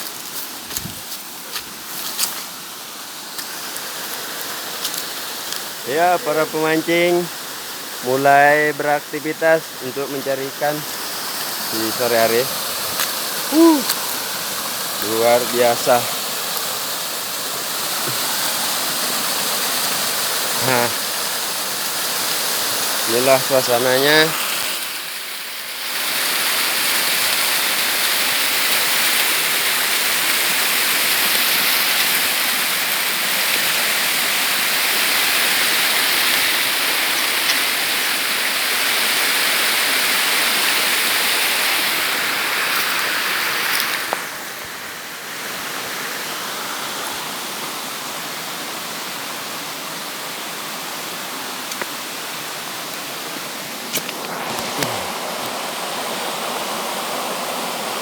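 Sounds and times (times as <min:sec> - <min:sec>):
waterfall and river rushing: 0:00.0 - 0:58.0.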